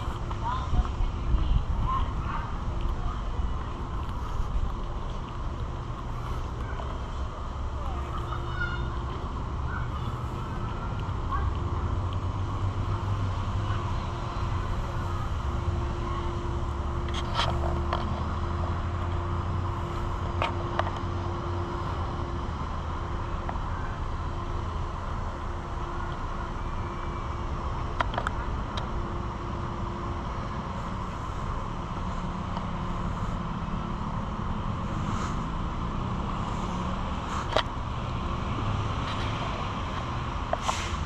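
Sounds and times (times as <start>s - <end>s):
low engine rumble: 0.0s - 41.0s.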